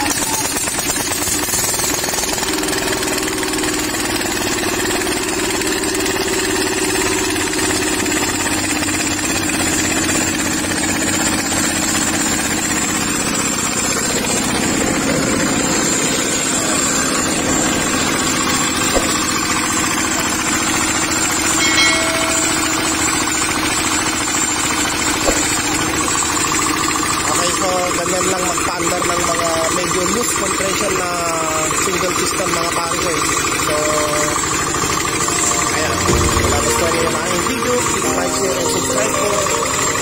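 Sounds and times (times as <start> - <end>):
diesel engine knocking: 0.0 - 40.0.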